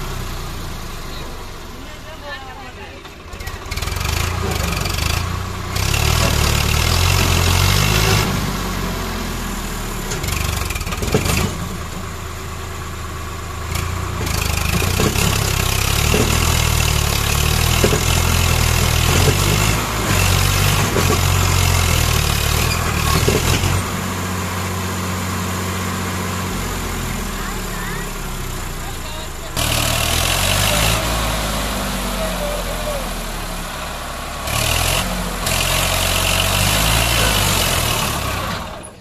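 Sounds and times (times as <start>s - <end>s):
tractor diesel engine revving: 0.0s - 39.0s.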